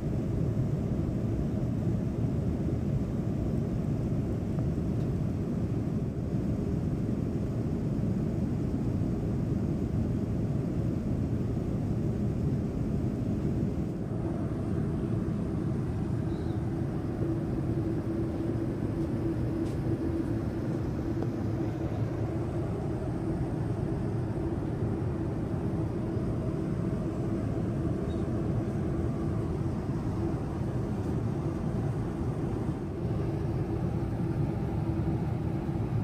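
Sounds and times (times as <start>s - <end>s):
airliner cabin rumble: 0.0s - 36.0s
constant hum: 0.0s - 36.0s.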